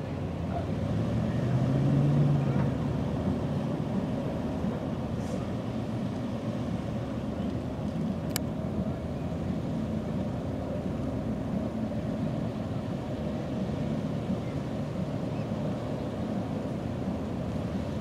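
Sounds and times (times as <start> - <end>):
ship engines droning: 0.0 - 18.0.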